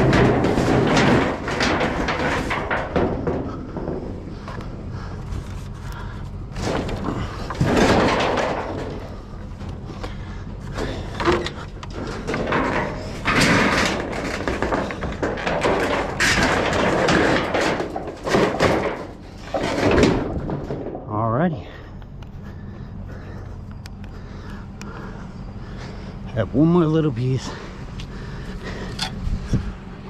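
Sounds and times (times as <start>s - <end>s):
scrap metal banging and clattering: 0.0s - 29.9s.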